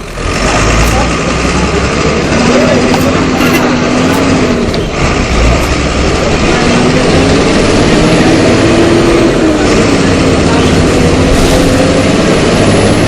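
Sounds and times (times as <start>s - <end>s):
bus diesel engine revving: 0.0s - 13.0s.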